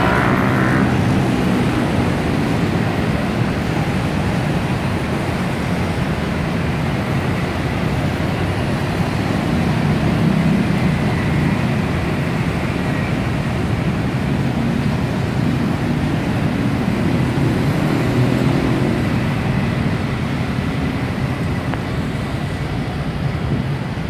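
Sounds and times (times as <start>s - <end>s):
city street traffic roar: 0.0s - 24.0s
elevated train running: 0.0s - 24.0s.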